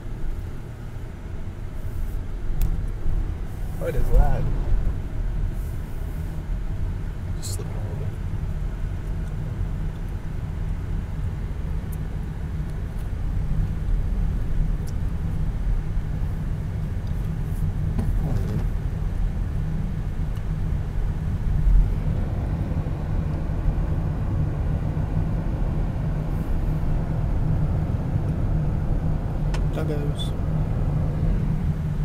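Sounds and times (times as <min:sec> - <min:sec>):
car cabin rumble: 0:00.0 - 0:32.0.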